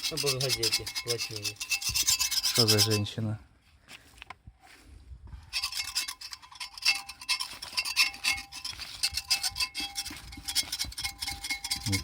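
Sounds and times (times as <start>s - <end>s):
metal tool scraping: 0.0s - 3.2s, 5.5s - 12.0s.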